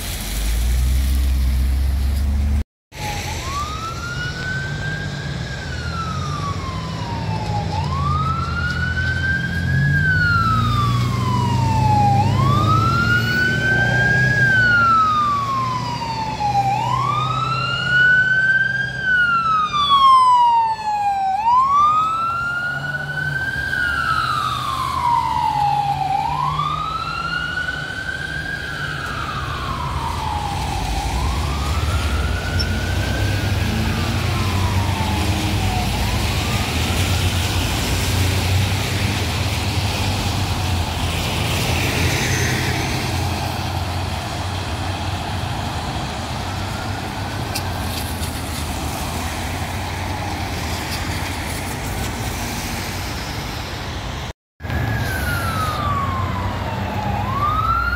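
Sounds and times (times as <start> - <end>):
low traffic rumble: 0.0 - 57.9
ambulance siren wailing: 2.9 - 52.4, 54.2 - 57.9.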